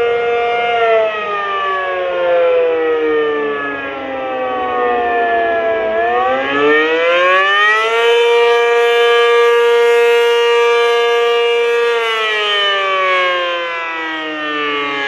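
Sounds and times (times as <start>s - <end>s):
rotating tornado siren: 0.0s - 15.0s.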